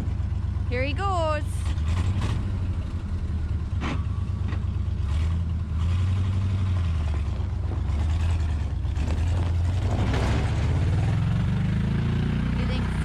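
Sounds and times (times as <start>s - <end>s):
truck engine pulling away: 0.0s - 13.0s.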